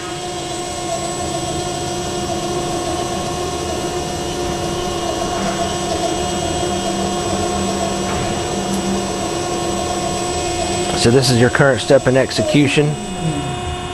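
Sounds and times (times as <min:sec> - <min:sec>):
bending machine humming: 0:00.0 - 0:13.9
low machine tone: 0:00.0 - 0:13.9.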